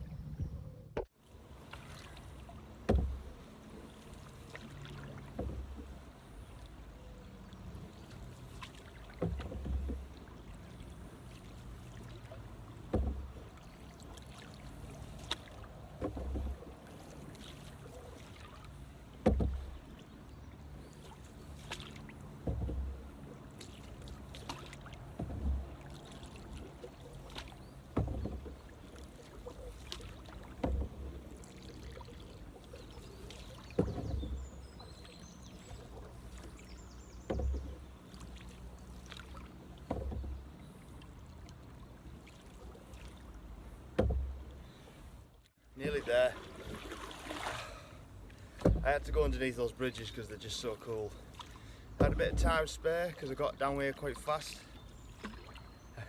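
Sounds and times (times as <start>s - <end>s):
canoe paddle splashing: 0.1s - 56.0s.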